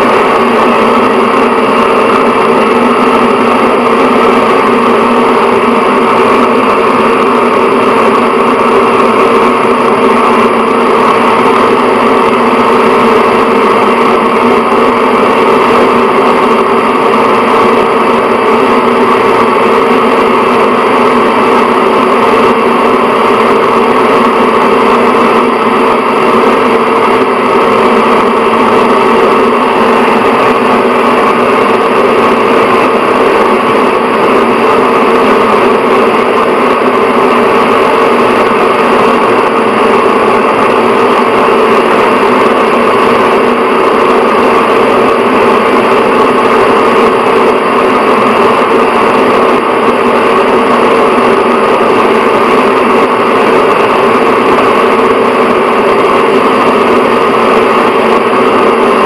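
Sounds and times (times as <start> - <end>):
exhaust fan whirring: 0.0 - 59.0.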